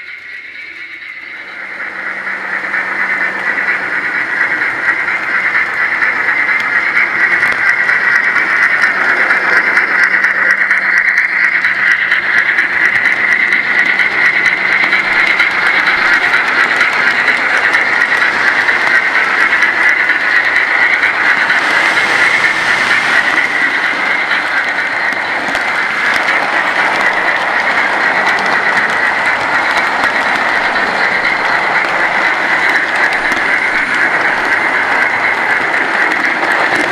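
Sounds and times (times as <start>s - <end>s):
model train wheels rattling: 0.0s - 36.9s.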